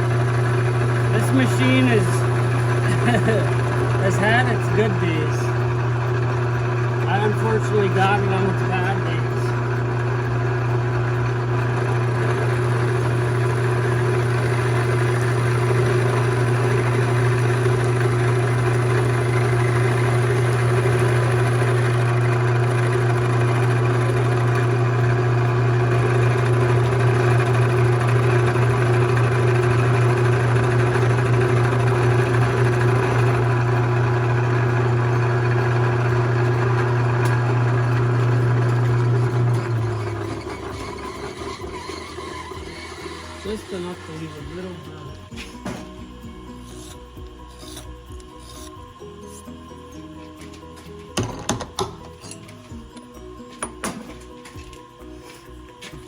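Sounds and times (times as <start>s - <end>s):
metal lathe motor humming: 0.0s - 56.0s.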